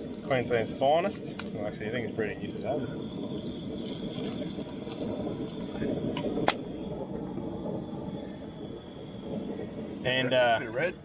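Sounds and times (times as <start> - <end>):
gas stove burner rushing: 0.0 - 11.0.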